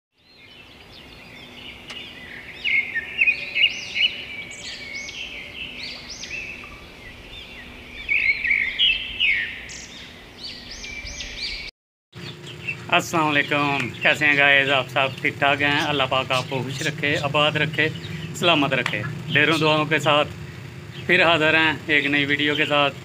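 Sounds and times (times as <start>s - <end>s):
songbirds chirping and whistling: 0.2s - 23.0s.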